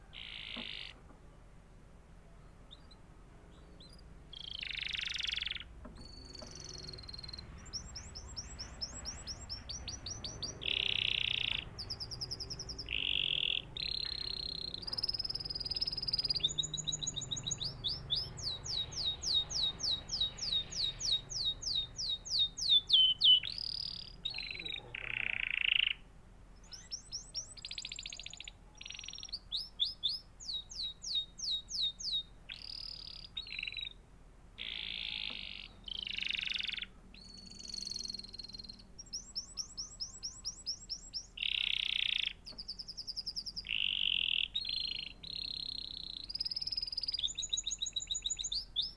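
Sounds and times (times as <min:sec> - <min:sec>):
canary singing: 0:00.0 - 0:01.1, 0:02.2 - 0:48.9.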